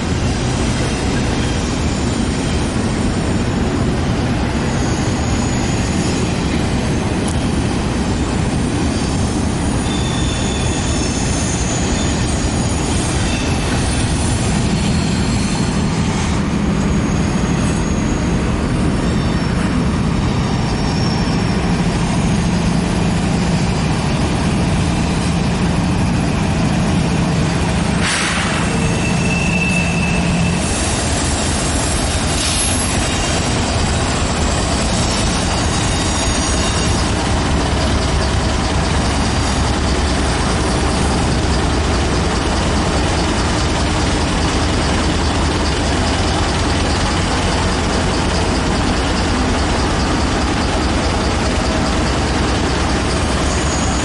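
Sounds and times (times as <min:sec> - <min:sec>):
locomotive engine drone: 0:00.0 - 0:54.0
wheels rumbling and rattling on rails: 0:00.0 - 0:54.0.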